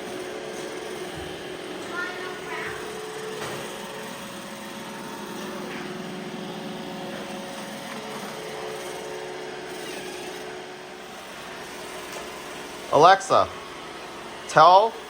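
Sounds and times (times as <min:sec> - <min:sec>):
robot vacuum humming: 0:00.0 - 0:15.0.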